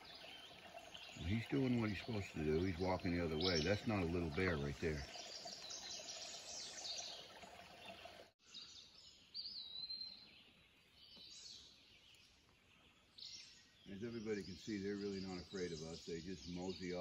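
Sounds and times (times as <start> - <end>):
soft outdoor hiss: 0.0 - 17.0
songbirds chirping: 0.0 - 17.0.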